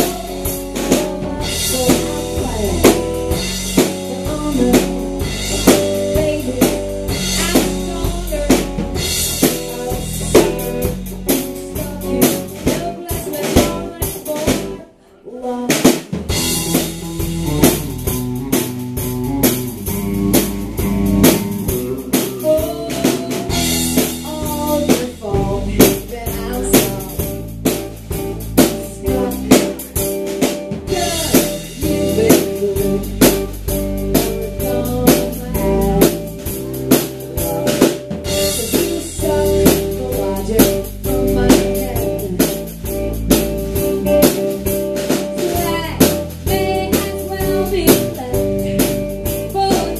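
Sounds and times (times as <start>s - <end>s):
drum kit beating: 0.0s - 14.8s, 15.6s - 49.9s
rock band playing: 0.0s - 14.8s, 15.7s - 49.9s
electric guitar: 0.0s - 15.0s, 15.8s - 49.9s.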